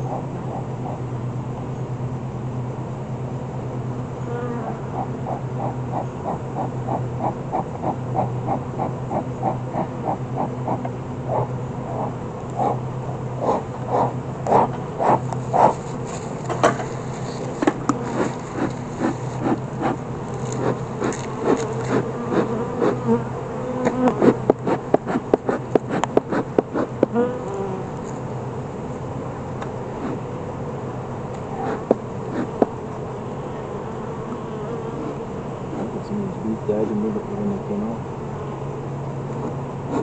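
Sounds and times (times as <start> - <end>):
honeybees buzzing: 0.0 - 40.0.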